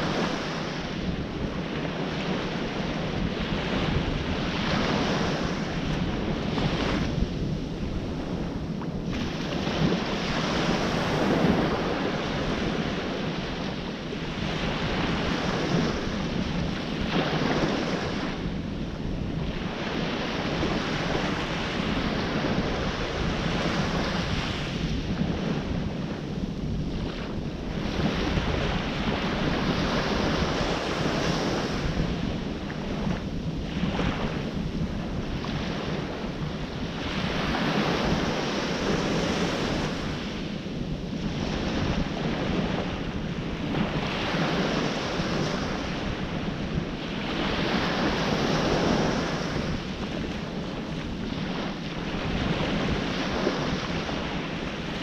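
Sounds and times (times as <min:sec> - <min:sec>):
ocean surf washing ashore: 0:00.0 - 0:55.0
wind buffeting microphone: 0:00.0 - 0:55.0.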